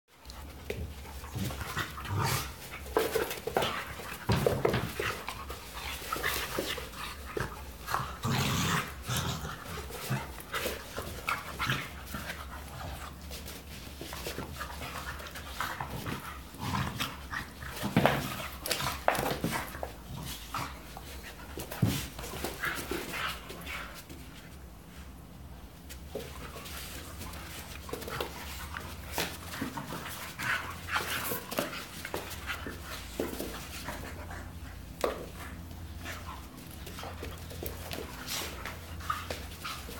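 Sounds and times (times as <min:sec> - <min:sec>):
paws scuffling on rug: 0:00.1 - 0:39.9
dogs play-fighting: 0:00.2 - 0:39.9.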